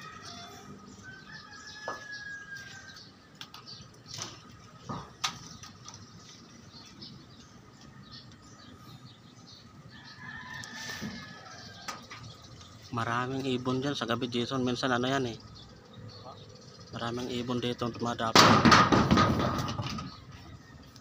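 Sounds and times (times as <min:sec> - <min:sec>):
small birds chirping: 0:00.0 - 0:18.3, 0:19.7 - 0:21.0.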